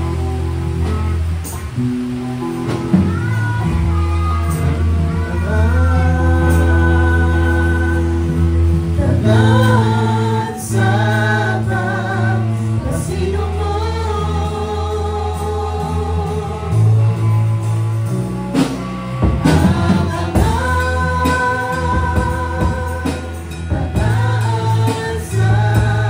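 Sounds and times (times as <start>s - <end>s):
bass guitar low notes: 0.0s - 26.0s
electric guitar: 0.0s - 26.0s
person singing slow melody: 0.8s - 17.7s, 19.3s - 26.0s.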